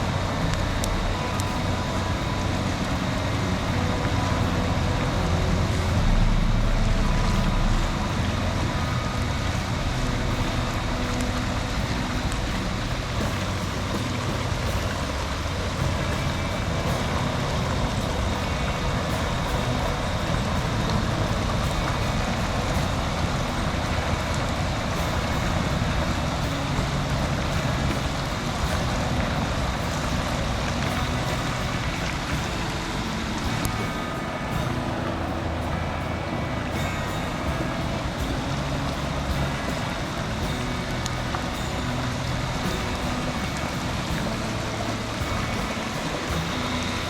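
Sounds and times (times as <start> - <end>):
stream water rushing over rocks: 0.0 - 47.0.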